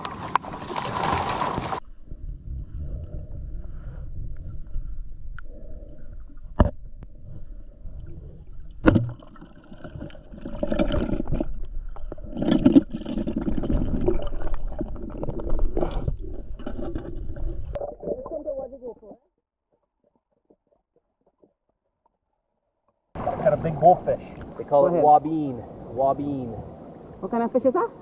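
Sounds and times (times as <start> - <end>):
water sloshing and gurgling: 0.0 - 19.0, 23.2 - 27.4.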